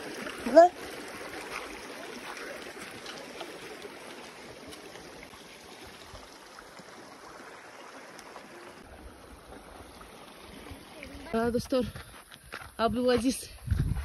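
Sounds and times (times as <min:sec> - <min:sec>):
mountain stream rushing: 0:00.0 - 0:11.4.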